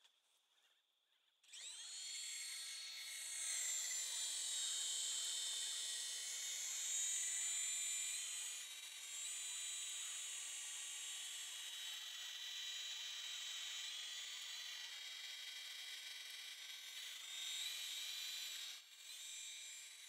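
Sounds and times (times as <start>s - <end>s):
model helicopter rotor whine: 1.4s - 20.0s.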